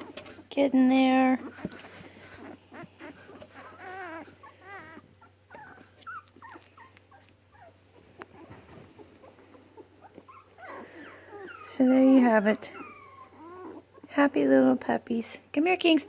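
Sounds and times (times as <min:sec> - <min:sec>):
puppies whimpering and squeaking: 0:00.0 - 0:14.2.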